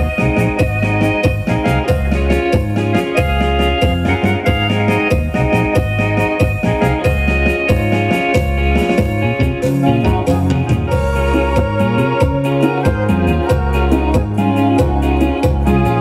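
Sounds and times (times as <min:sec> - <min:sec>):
dance music with strong bass: 0:00.0 - 0:16.0.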